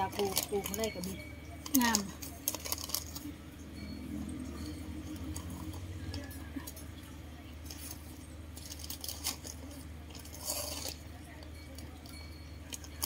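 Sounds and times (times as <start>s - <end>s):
plastic bag crinkling: 0.0s - 3.4s, 5.0s - 13.0s.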